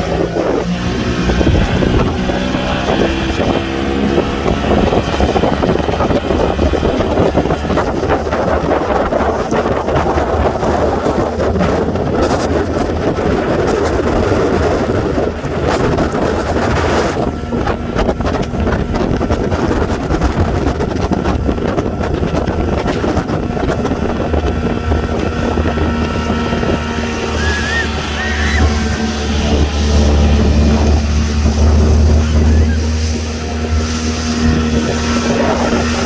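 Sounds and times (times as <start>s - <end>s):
boat motor running: 0.0s - 36.0s
wind on microphone: 0.0s - 36.0s.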